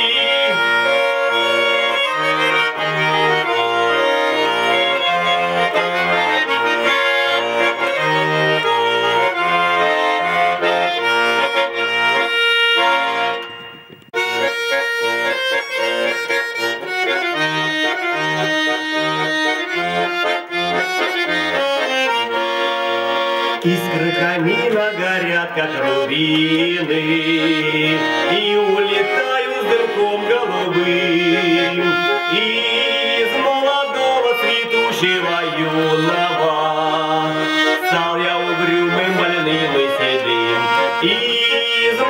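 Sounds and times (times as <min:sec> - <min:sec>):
button accordion folk tune: 0:00.0 - 0:42.0.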